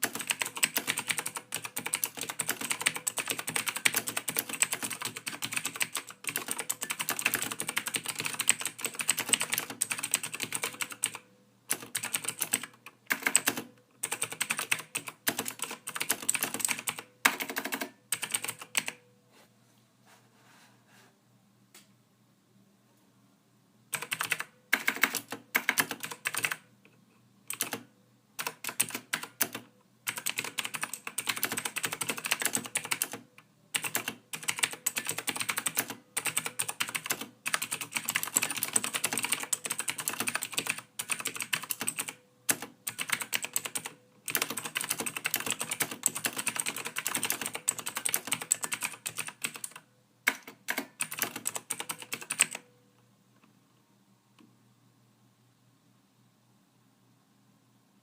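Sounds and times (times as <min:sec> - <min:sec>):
typing on computer keyboard: 0:00.0 - 0:19.0, 0:23.9 - 0:26.7, 0:27.5 - 0:52.7.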